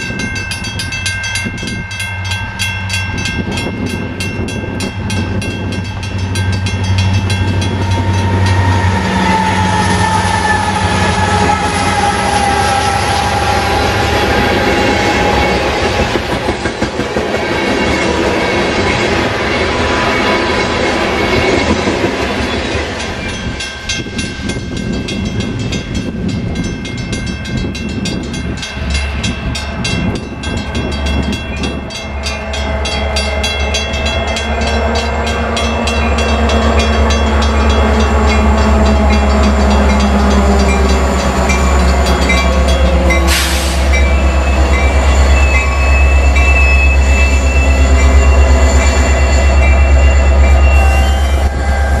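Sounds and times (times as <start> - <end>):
diesel locomotive engine rumble: 0.0 - 52.0
freight train wheels clattering: 0.0 - 52.0.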